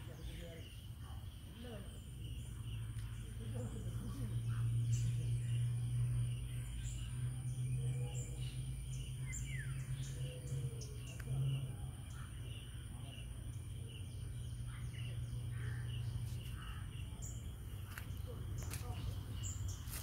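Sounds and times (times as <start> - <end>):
birds chirping and calling: 0.0 - 20.0
insects chirring: 0.0 - 20.0
steady low hum: 0.0 - 20.0.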